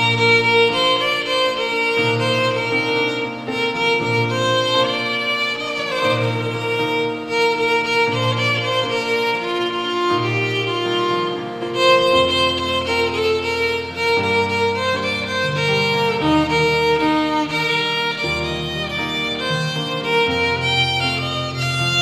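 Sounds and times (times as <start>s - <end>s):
solo violin melody: 0.0s - 22.0s.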